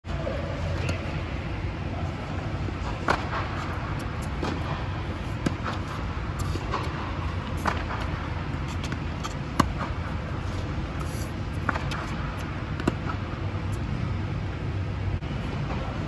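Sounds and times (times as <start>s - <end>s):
low fan hum: 0.1s - 16.0s.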